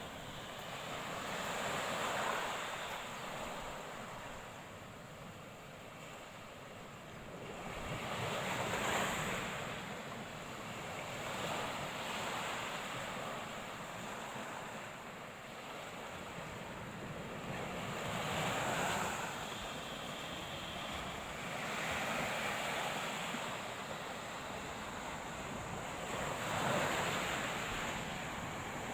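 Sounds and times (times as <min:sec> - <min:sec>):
waves breaking on shore: 0:00.0 - 0:28.9.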